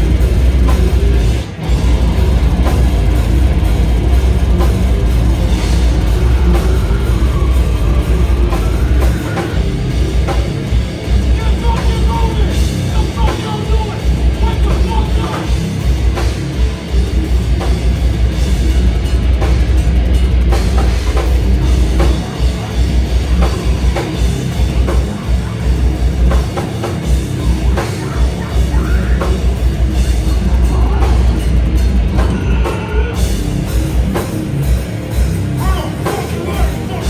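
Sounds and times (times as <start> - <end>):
death metal band playing: 0.0 - 37.0
pounding drum kit: 0.0 - 37.0.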